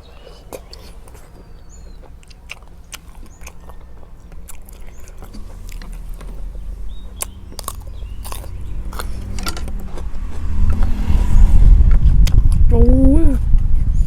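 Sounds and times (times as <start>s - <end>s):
crunching and chewing crisp food: 0.0s - 12.7s
low vehicle engine rumble: 0.0s - 14.0s.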